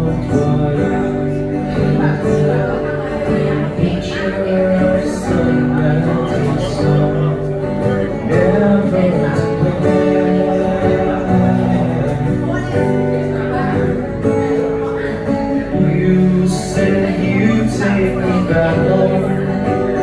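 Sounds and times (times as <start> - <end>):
acoustic guitar strummed and picked: 0.0 - 20.0
person singing: 0.0 - 20.0.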